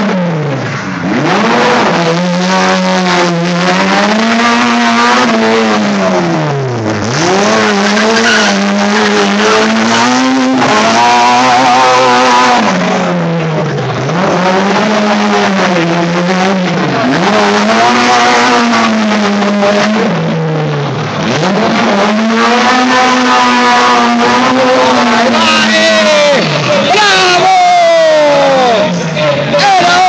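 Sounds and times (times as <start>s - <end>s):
car engine revving hard: 0.0s - 30.0s.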